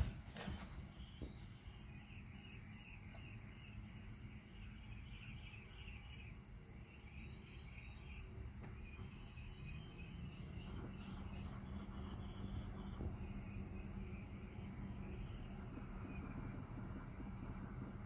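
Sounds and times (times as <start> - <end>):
faint cricket chirps: 0.8 - 18.0.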